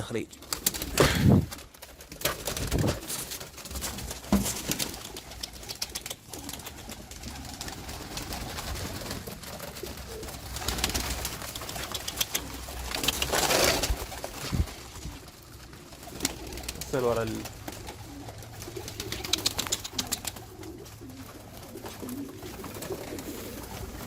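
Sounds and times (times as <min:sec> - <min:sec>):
pigeons cooing: 0:00.4 - 0:24.0.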